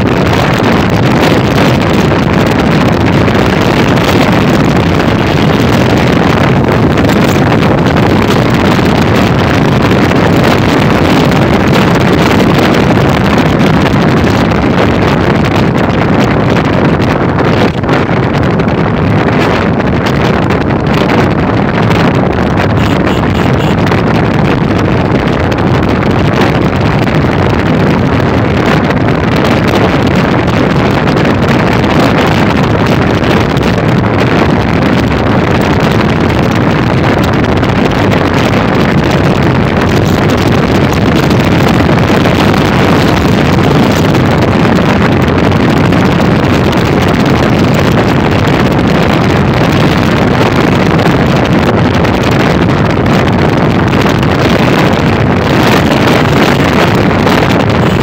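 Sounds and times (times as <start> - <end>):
motorcycle engine running: 0.0 - 58.0
road noise: 0.0 - 58.0
wind buffeting microphone: 0.0 - 58.0.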